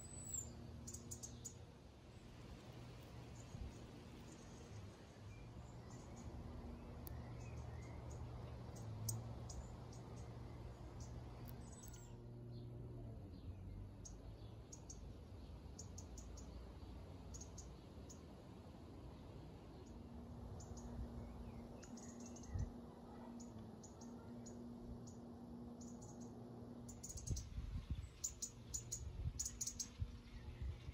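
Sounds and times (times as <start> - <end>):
faint high-pitched ticks and chirps: 0.0 - 1.6, 2.5 - 12.2, 14.0 - 16.6, 17.2 - 18.3, 19.8 - 21.0, 21.7 - 25.2, 25.8 - 30.8.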